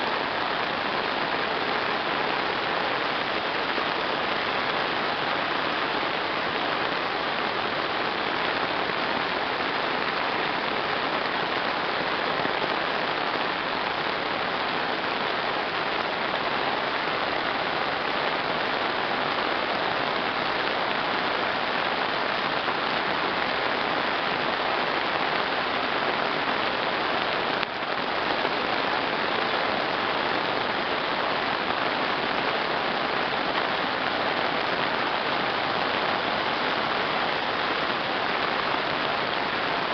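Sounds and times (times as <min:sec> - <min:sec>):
heavy rain on asphalt: 0:00.0 - 0:39.9.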